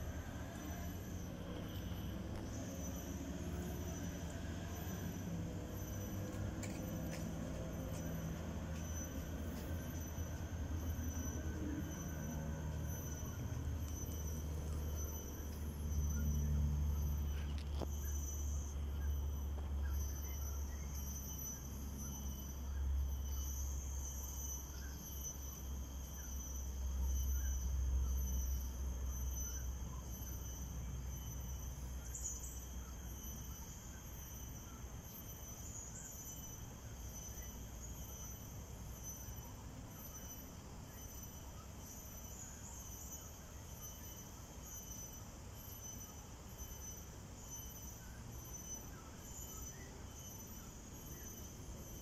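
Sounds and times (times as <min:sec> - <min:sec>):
insects chorus: 0:00.0 - 0:52.0.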